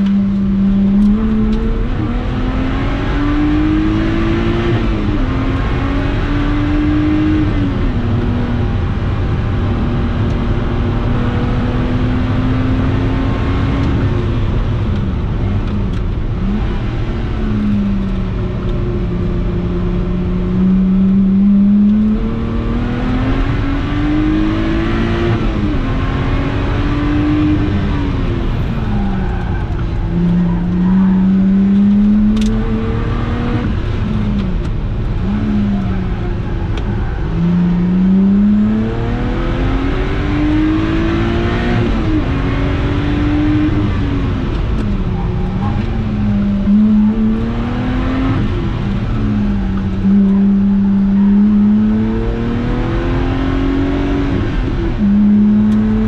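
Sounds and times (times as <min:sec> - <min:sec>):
car engine revving through gears: 0:00.0 - 0:56.0
wind and tyre rush: 0:00.0 - 0:56.0.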